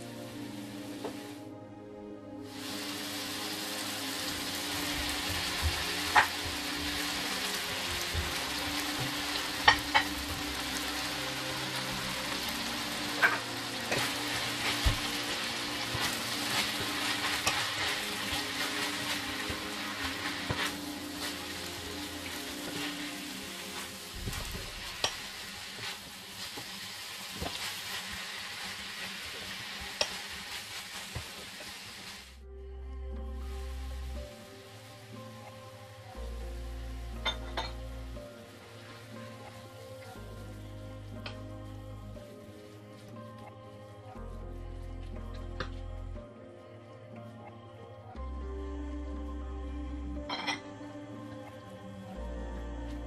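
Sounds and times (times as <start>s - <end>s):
vegetables sizzling in a wok: 0.0s - 1.5s, 2.4s - 32.4s, 33.4s - 44.4s.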